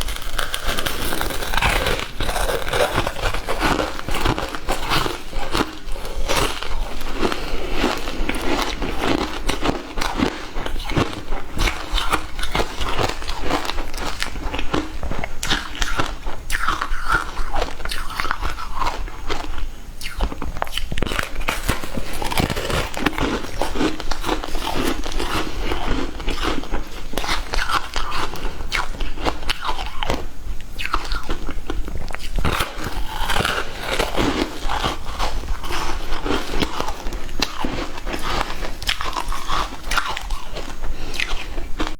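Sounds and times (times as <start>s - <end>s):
person chewing crunchy ice: 0.0s - 41.9s.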